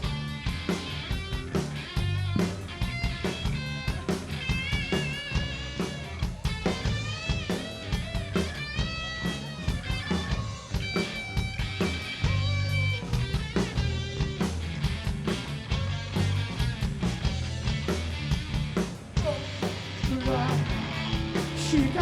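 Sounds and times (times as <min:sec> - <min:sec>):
drums and bass: 0:00.0 - 0:22.0.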